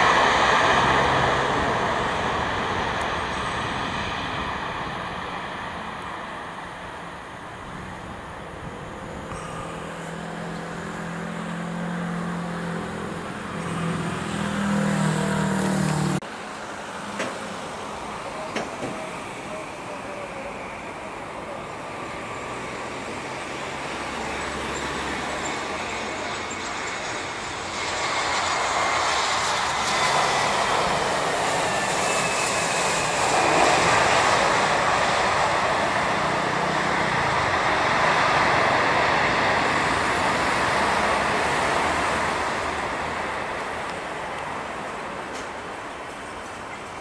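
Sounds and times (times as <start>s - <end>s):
jet engine noise of landing airliner: 0.0s - 47.0s.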